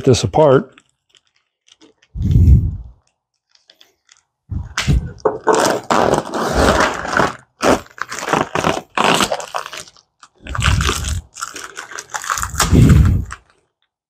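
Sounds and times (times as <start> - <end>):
plastic wrapping crinkling and tearing: 0.4 - 2.2, 2.9 - 13.8.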